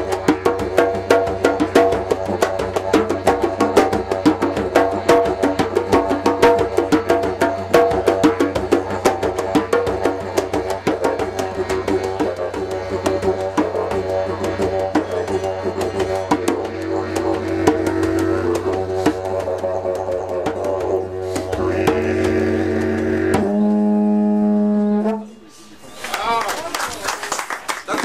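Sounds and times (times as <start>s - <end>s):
hand drumming on djembes: 0.0s - 24.3s
didgeridoo low drone: 0.0s - 25.9s.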